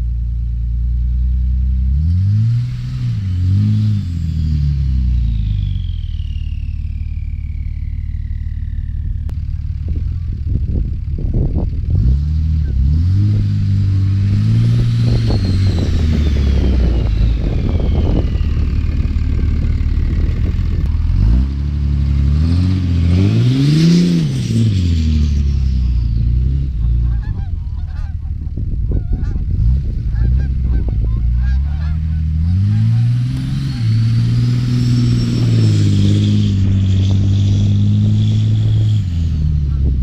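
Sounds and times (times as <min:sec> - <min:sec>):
diesel truck engine revving: 0:01.4 - 0:40.0.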